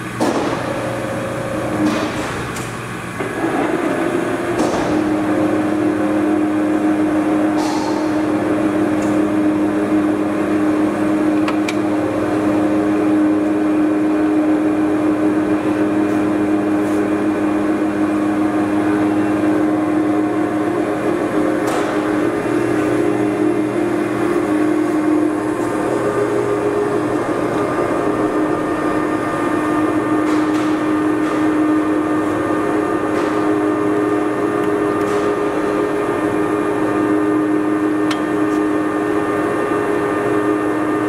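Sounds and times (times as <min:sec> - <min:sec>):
lathe motor humming: 0:00.0 - 0:41.0.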